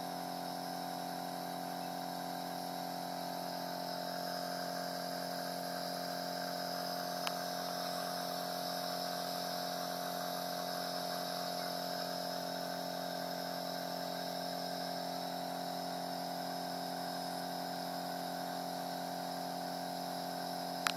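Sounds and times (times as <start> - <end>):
compressor nebulizer humming: 0.0 - 20.9.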